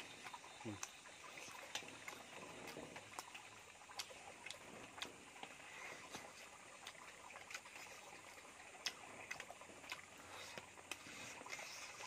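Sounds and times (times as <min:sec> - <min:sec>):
chewing with wet mouth clicks: 0:00.0 - 0:12.0
faint steady hiss: 0:00.0 - 0:12.0.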